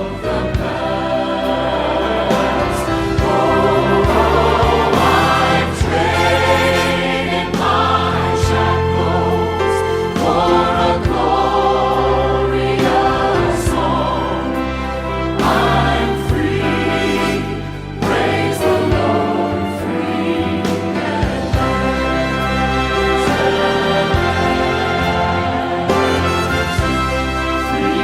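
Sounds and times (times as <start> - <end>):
choir singing: 0.0 - 28.0
instrumental accompaniment: 0.0 - 28.0.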